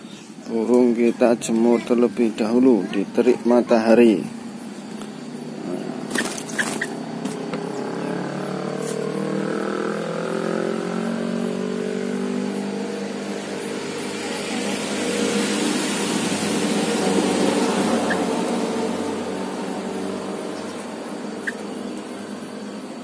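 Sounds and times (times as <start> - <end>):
engine hum: 0.0 - 23.0.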